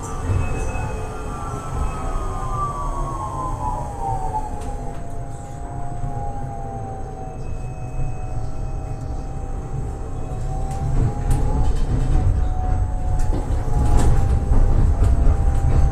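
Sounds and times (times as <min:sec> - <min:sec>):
steady whine: 0:00.0 - 0:15.9
tram wheels rumbling on rails: 0:00.0 - 0:15.9.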